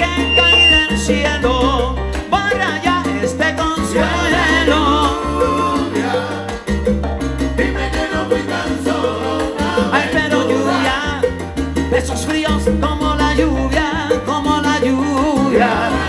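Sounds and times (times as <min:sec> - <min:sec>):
live salsa band playing: 0:00.0 - 0:16.0.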